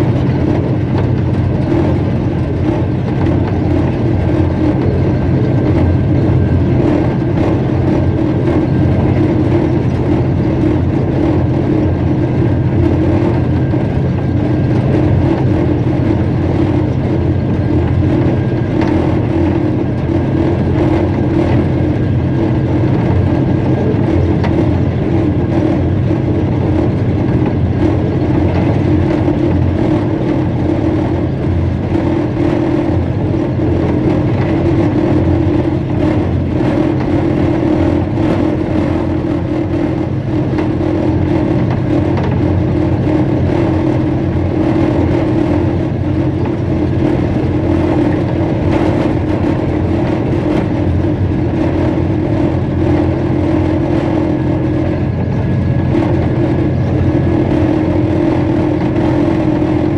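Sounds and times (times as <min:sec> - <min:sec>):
diesel engine drone: 0:00.0 - 0:59.9
wheels rumbling on track: 0:00.0 - 0:59.9.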